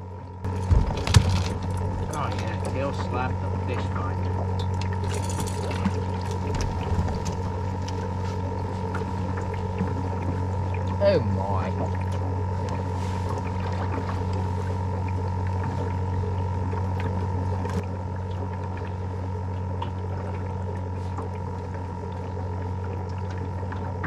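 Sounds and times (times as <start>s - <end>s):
electric boat motor humming: 0.0s - 24.0s.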